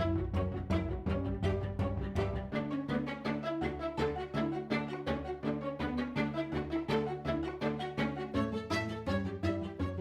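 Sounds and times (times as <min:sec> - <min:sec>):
fast rhythmic string music: 0:00.0 - 0:10.0.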